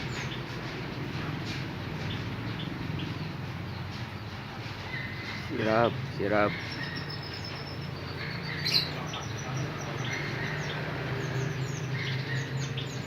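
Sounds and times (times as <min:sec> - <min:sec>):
canaries chirping: 0:00.0 - 0:13.0.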